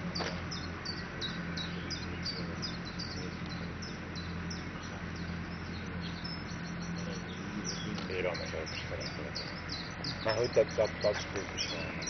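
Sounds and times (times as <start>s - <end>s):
low steady hum: 0.0s - 12.0s
small bird singing: 0.0s - 12.0s.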